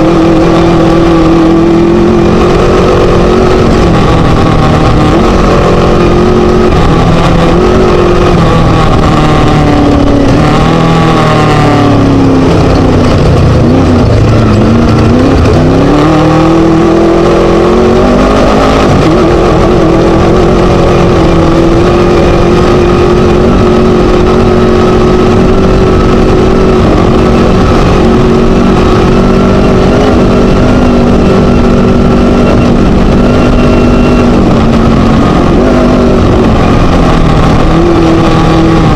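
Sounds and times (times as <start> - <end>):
race buggy engine revving: 0.0 - 38.9.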